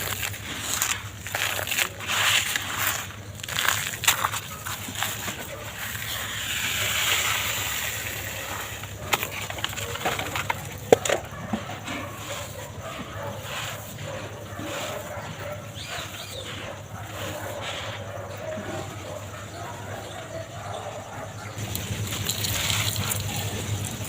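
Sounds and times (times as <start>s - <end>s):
dry material crunching and crackling: 0.0s - 19.2s, 21.6s - 24.0s.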